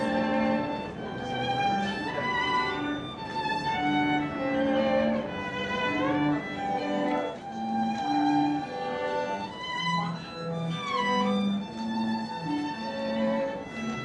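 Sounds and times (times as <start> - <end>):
string quartet playing: 0.0 - 14.0.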